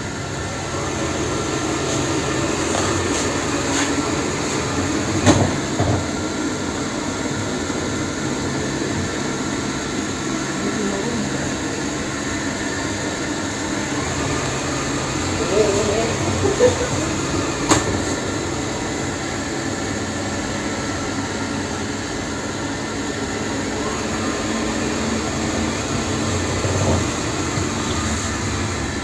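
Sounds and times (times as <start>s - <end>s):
robot vacuum cleaner humming: 0.0s - 29.0s.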